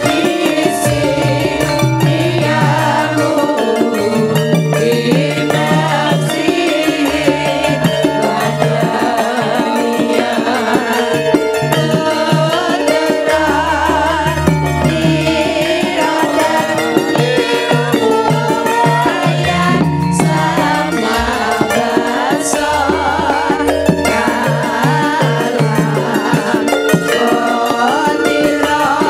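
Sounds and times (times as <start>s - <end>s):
bronze percussion ensemble ringing: 0.0s - 29.0s
women singing together: 0.0s - 29.0s.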